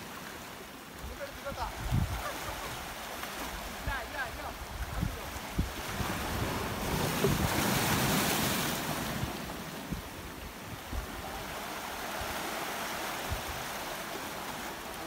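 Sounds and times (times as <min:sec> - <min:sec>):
waves breaking on rocks: 0:00.0 - 0:15.0
wind buffeting microphone: 0:01.1 - 0:12.6, 0:13.2 - 0:13.8.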